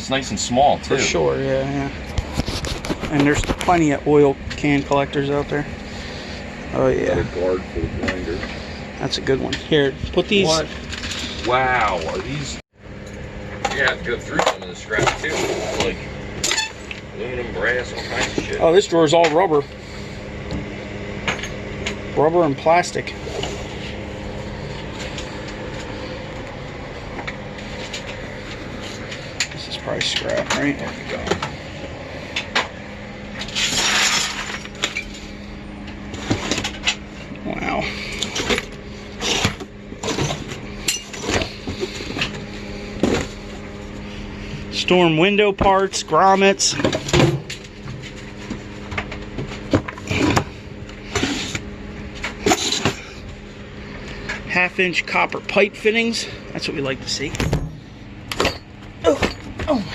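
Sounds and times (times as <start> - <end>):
mechanical hum: 0.0 - 59.9.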